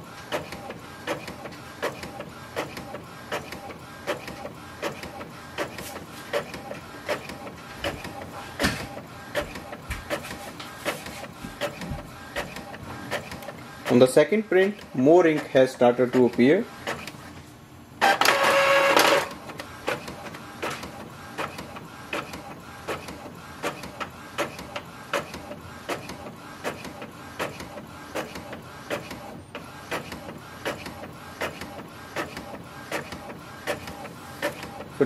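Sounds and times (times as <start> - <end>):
printer whirring: 0.0 - 35.0.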